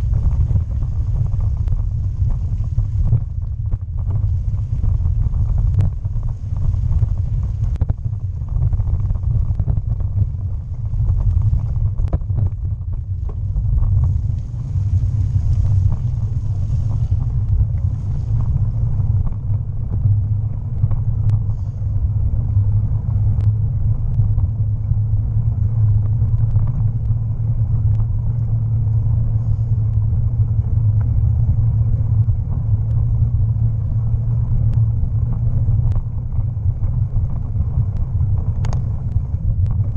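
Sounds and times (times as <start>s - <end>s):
bicycle tyres rumbling: 0.0s - 39.9s.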